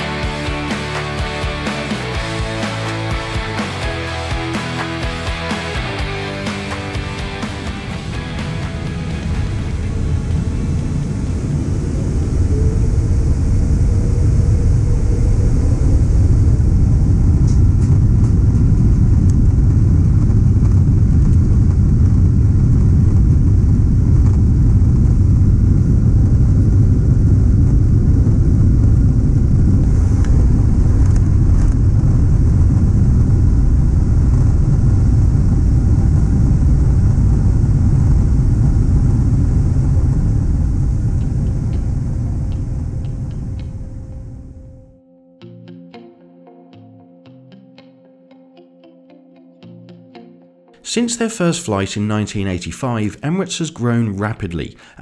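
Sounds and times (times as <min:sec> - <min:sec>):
jet engines rumbling: 0:00.0 - 0:45.0.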